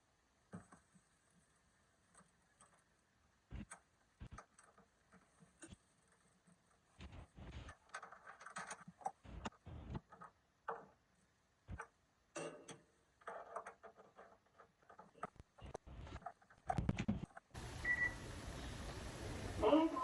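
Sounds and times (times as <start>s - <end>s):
faint clicks and taps: 0.4s - 17.6s.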